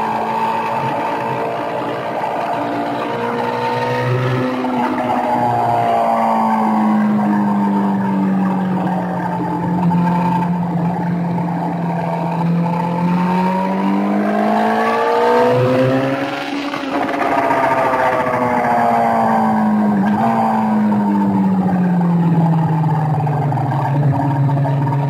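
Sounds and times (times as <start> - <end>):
motorcycle engine at speed: 0.0 - 25.0.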